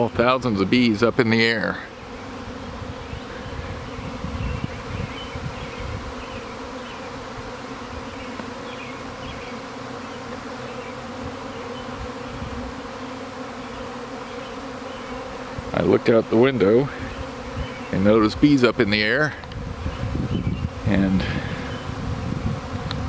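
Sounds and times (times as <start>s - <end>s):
bee swarm humming: 0.0s - 23.0s.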